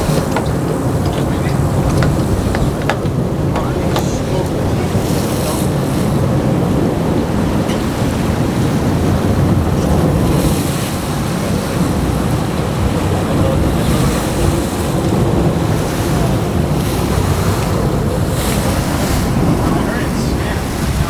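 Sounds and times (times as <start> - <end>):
sea water rushing around boat: 0.0 - 21.0
wind buffeting microphone: 0.0 - 21.0.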